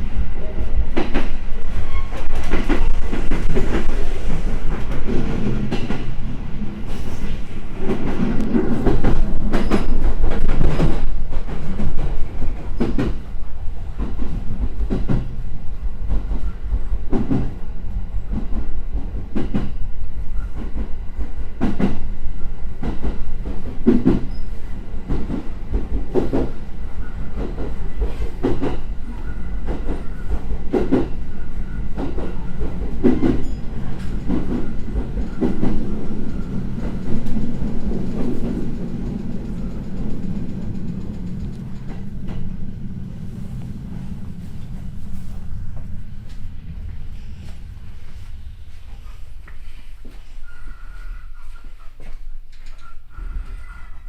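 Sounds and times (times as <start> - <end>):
electric train rumbling: 0.0 - 54.0.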